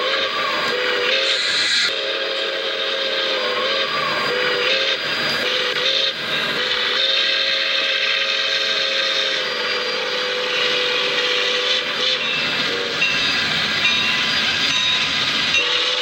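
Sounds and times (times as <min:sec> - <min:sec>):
moving train noise: 0:00.0 - 0:16.0
steam whistle blowing: 0:00.0 - 0:16.0.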